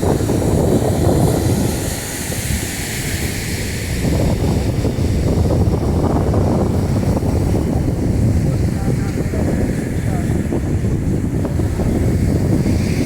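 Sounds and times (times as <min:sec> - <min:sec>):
sea surf breaking: 0:00.0 - 0:13.0
wind buffeting microphone: 0:00.0 - 0:13.0.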